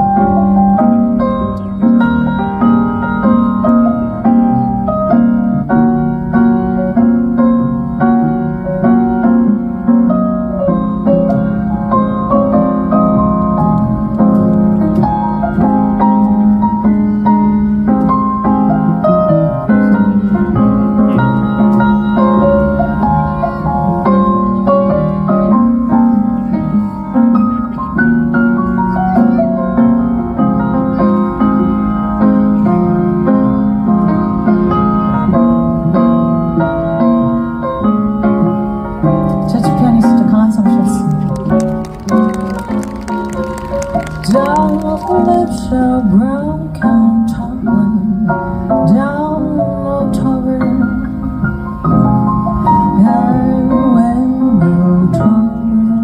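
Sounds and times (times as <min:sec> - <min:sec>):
bass accompaniment: 0:00.0 - 0:56.0
jazz piano solo: 0:00.0 - 0:56.0.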